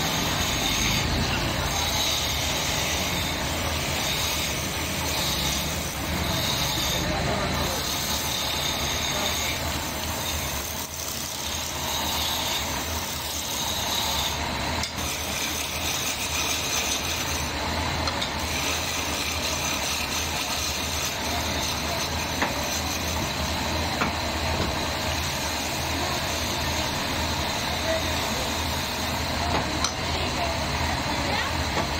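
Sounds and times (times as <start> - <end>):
gouge scraping spinning wood: 0.0 - 31.9
wood lathe motor humming: 0.0 - 31.9.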